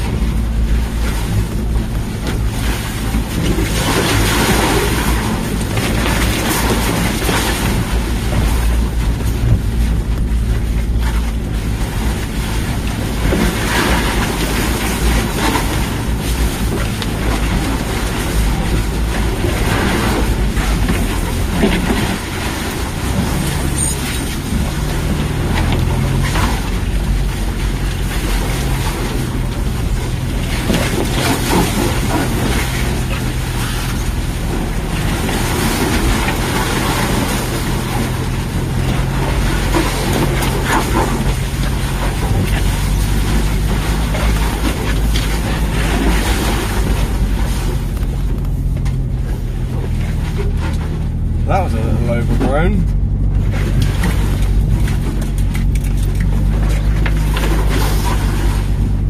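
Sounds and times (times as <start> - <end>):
car engine under load: 0.0 - 59.0
rumble from rough ground: 0.0 - 59.0
wind: 0.0 - 59.0.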